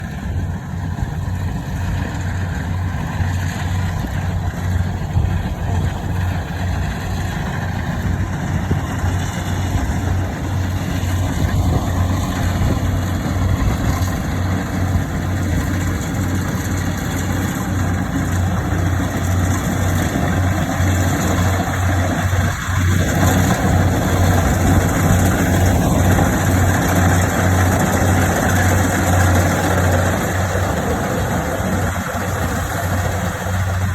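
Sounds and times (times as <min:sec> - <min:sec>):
combine harvester engine drone: 0:00.0 - 0:33.9.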